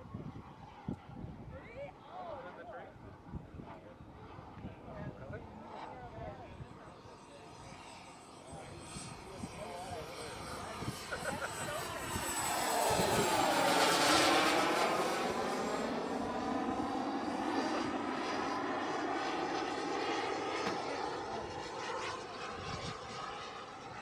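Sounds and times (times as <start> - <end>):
model jet turbine engine flying past: 0.0 - 24.0.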